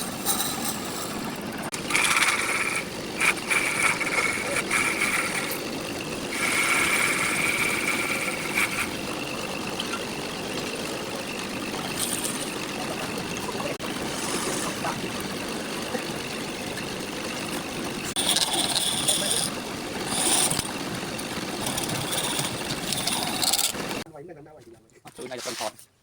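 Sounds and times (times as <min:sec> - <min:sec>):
turning tool scraping wood: 0:00.0 - 0:16.0, 0:16.7 - 0:24.0
wood lathe running: 0:00.0 - 0:24.1.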